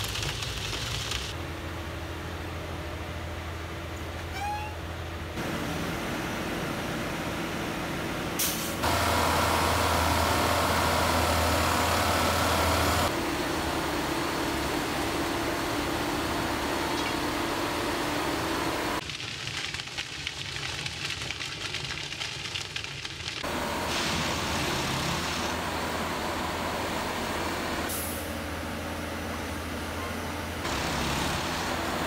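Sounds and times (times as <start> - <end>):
rail machine engine drone: 1.0 - 19.0, 23.5 - 32.0.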